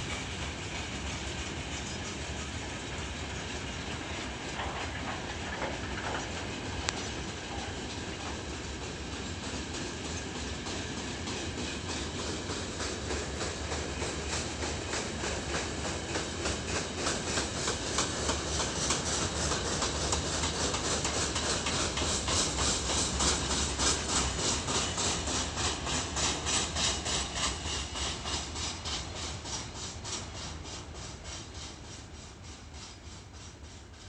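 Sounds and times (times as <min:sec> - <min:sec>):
wheels clicking over rail joints: 0:03.8 - 0:31.9.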